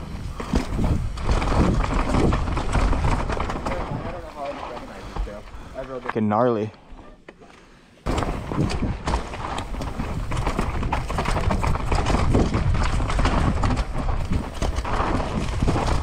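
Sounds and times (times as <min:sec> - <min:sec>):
bike clattering and rattling: 0:00.0 - 0:06.2, 0:08.1 - 0:16.0
bike tyres on dirt and rock: 0:00.0 - 0:16.0.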